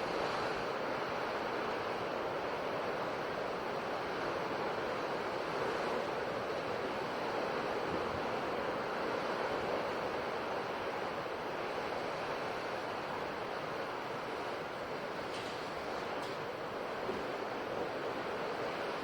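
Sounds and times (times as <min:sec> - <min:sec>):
ocean surf washing: 0:00.0 - 0:19.0.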